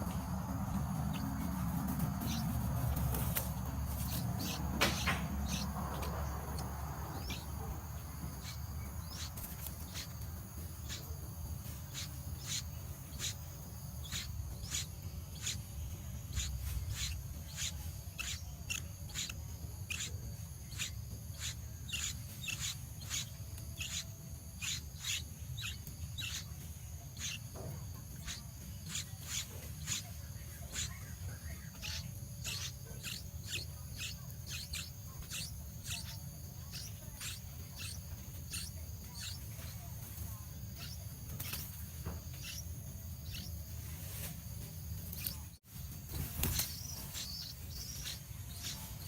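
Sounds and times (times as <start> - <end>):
high insect drone: 0.0 - 49.0
small bird chirping: 0.0 - 49.0.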